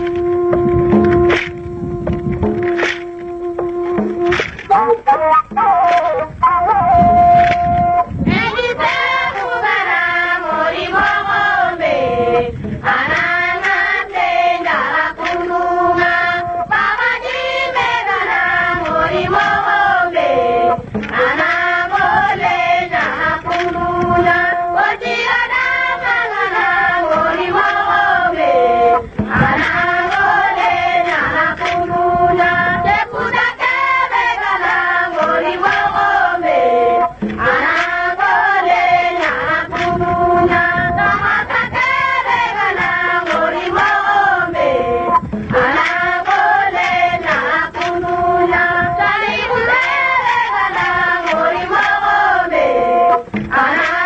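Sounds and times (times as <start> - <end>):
person chanting a melodic phrase: 0.0 - 34.0, 34.6 - 41.1, 42.8 - 50.2, 51.3 - 53.8.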